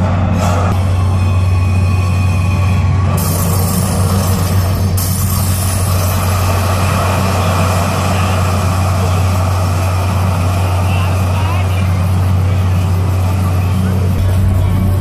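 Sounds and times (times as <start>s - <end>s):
deep low drone: 0.0s - 15.0s.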